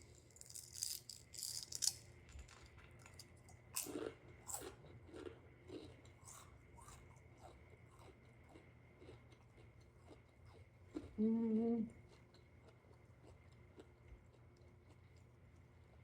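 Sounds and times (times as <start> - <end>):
chewing crunchy snack food: 0.0 - 11.2, 12.0 - 16.0.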